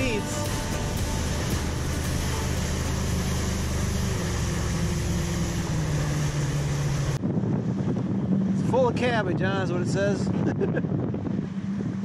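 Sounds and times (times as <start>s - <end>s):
outboard motor hum: 0.0s - 12.0s
wind and water rushing: 0.0s - 12.0s.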